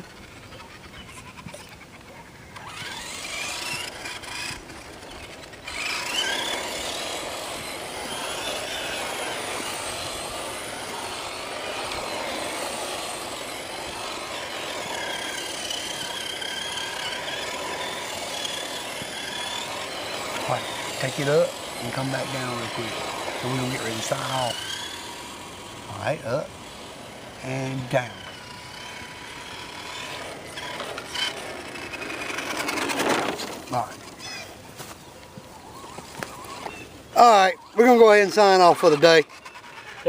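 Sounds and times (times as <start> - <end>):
toy truck electric motor whine: 0.0 - 40.0.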